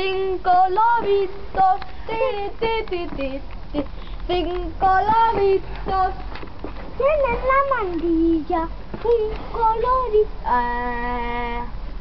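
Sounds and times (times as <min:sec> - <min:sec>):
child singing: 0:00.0 - 0:06.2, 0:07.0 - 0:11.8.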